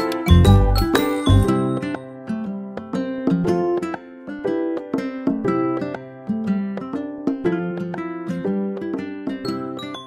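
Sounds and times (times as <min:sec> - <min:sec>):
plucked string instrumental music: 0:00.0 - 0:10.0.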